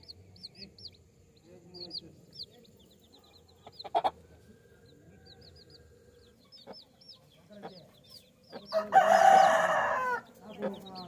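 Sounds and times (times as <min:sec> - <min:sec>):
hen clucking: 0:00.0 - 0:04.5, 0:05.3 - 0:11.0
chicks peeping: 0:00.0 - 0:11.0.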